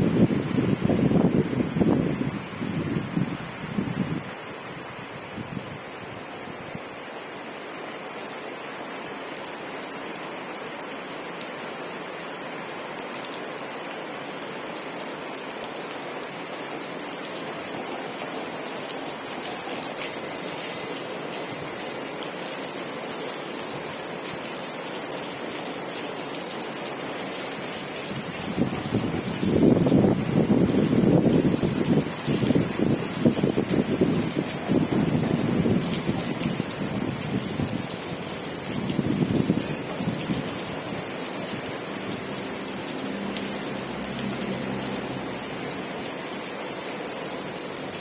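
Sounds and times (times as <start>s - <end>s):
rain falling: 0.0s - 48.0s.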